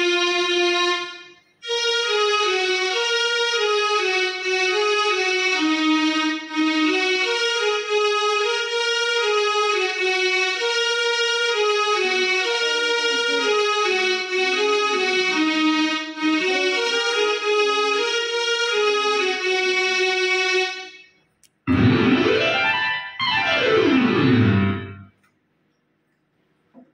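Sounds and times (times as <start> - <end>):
electronic keyboard melody: 0.0 - 25.2.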